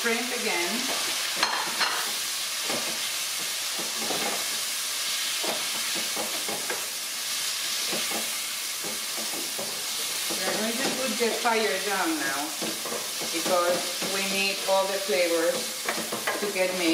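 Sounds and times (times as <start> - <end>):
shrimp sizzling in a pan: 0.0 - 16.9.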